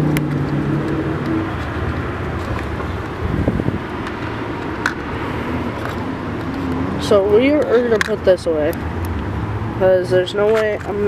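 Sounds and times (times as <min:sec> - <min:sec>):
distant road traffic hum: 0:00.0 - 0:11.0
wind rumbling on microphone: 0:00.0 - 0:11.0.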